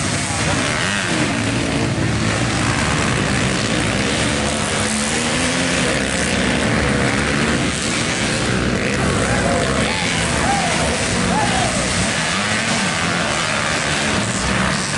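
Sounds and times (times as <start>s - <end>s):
racing engines revving: 0.0s - 14.9s.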